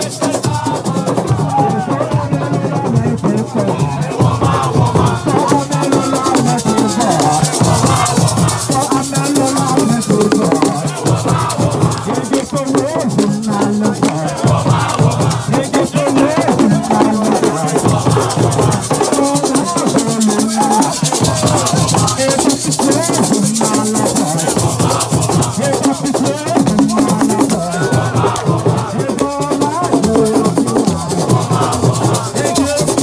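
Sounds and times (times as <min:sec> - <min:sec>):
group singing: 0:00.0 - 0:33.0
percussion: 0:00.0 - 0:33.0
shaker rhythm: 0:00.0 - 0:33.0.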